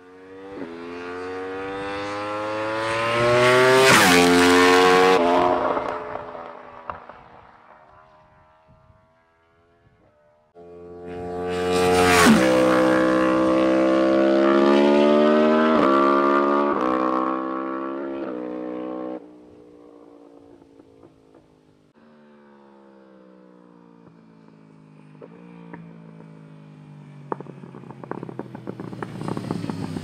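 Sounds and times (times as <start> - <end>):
motorcycle full-throttle fly-by: 0.0 - 30.0.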